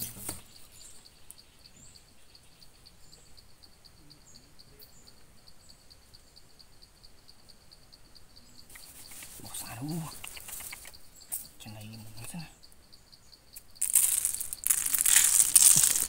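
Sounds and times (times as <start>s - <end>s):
bird chirps: 0.0s - 15.9s.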